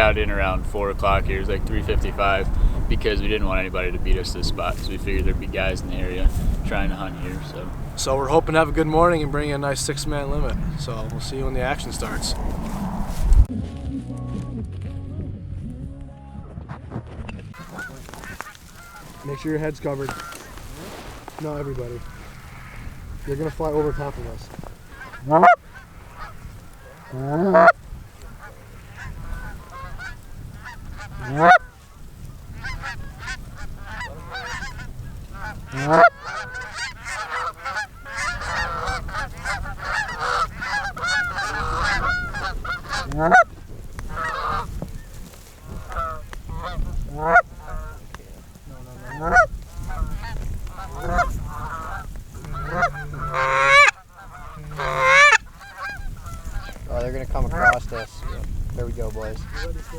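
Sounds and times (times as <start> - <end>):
geese honking: 0.0 - 13.5, 17.6 - 59.9.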